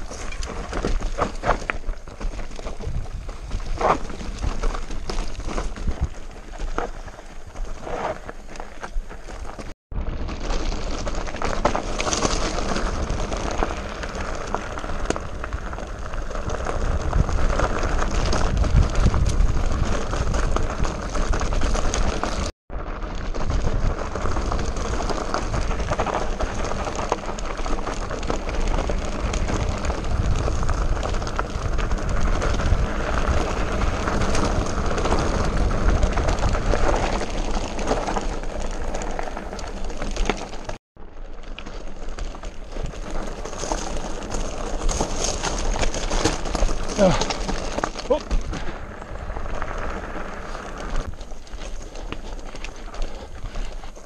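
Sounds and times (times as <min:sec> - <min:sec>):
bike tyres crunching over gravel: 0:00.0 - 0:54.0.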